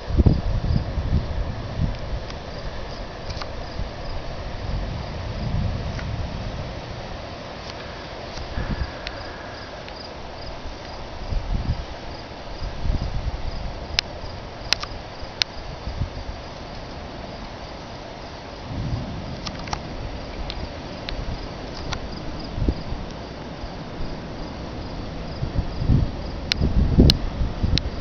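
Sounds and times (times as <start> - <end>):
low rumbles: 0.0 - 14.5, 18.4 - 28.0
crickets chirping: 0.0 - 28.0.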